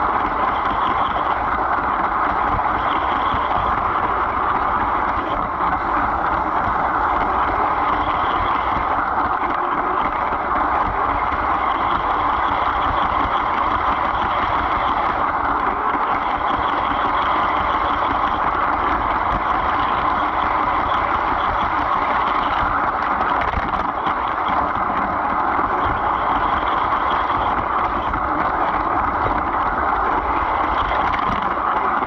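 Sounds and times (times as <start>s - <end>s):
toy train motor and wheels: 0.0s - 32.0s.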